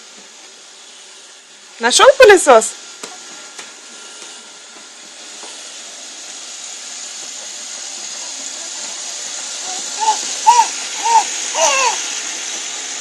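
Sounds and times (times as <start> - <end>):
robot vacuum cleaner hissing: 0.0 - 13.0.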